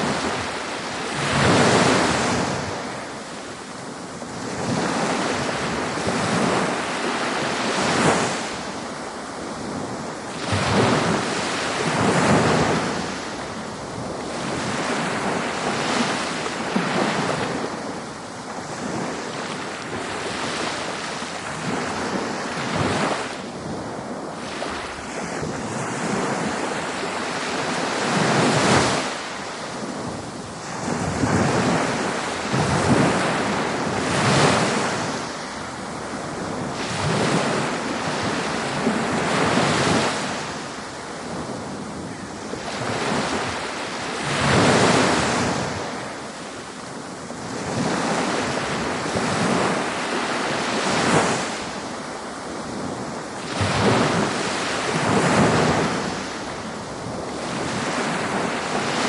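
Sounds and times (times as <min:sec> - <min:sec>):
ocean waves breaking: 0:00.0 - 0:59.0
wind noise on microphone: 0:00.0 - 0:59.0.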